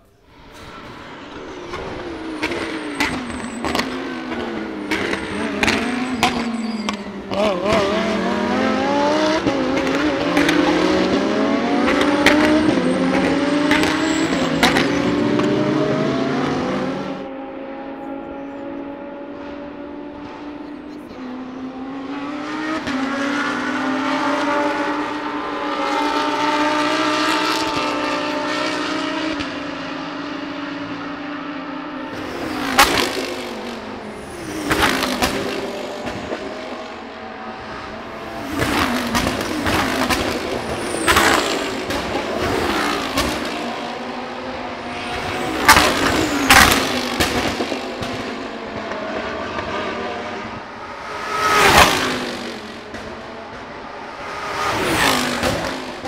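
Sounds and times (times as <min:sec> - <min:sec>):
race car engine: 0:00.0 - 0:56.0
race cars passing by: 0:00.0 - 0:56.0.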